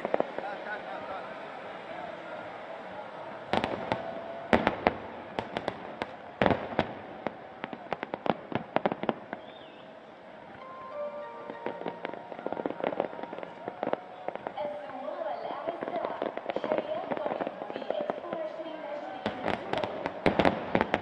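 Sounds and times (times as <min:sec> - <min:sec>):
fireworks bursting: 0:00.0 - 0:01.1, 0:03.4 - 0:21.0.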